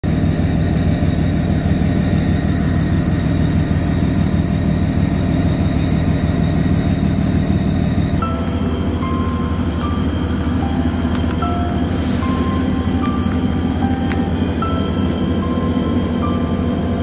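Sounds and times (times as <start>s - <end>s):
higher steady tones: 1.0s - 17.0s.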